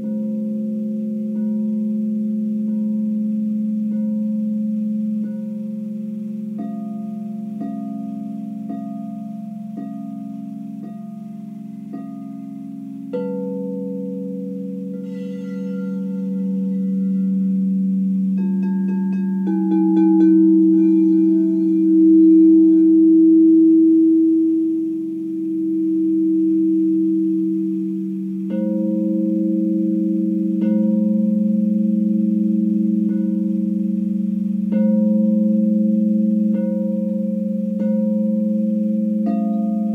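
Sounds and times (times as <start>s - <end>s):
singing bowls ringing: 0.0s - 39.9s.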